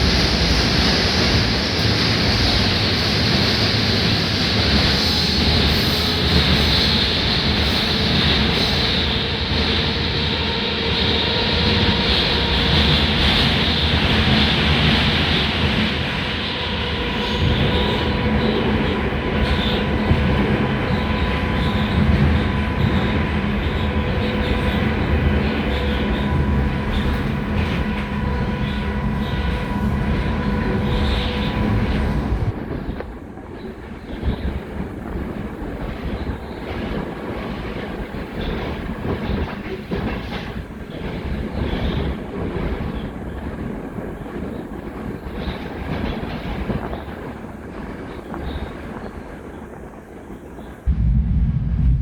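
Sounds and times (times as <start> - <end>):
metro train rumble and hiss: 0.0 - 52.0.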